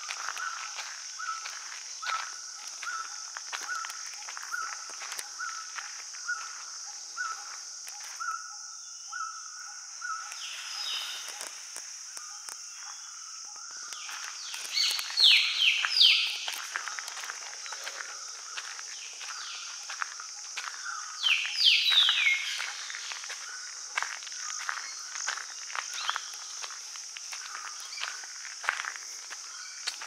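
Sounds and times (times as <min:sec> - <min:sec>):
footsteps on dirt trail: 0:00.0 - 0:08.4, 0:10.2 - 0:30.0
high insect drone: 0:00.0 - 0:30.0.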